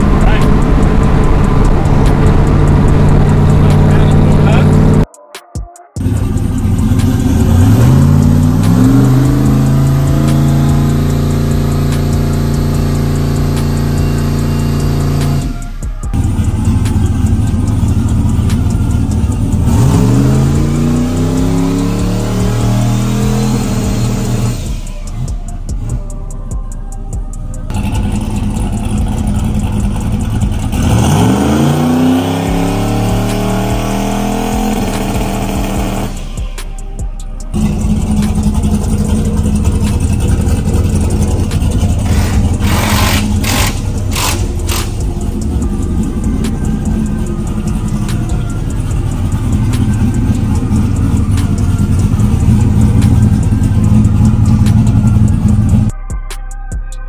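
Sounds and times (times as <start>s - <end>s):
engine running hard: 0.0s - 5.1s, 6.0s - 55.9s.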